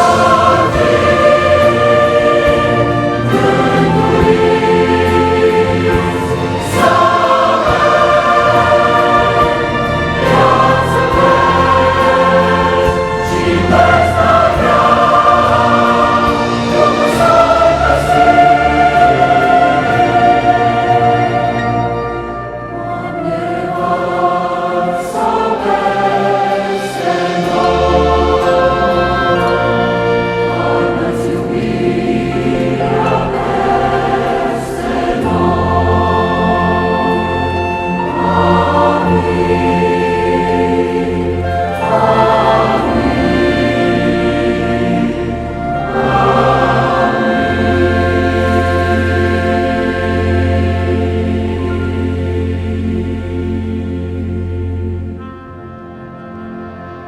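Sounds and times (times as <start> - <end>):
choir singing: 0.0 - 57.0
orchestral accompaniment: 0.0 - 57.0.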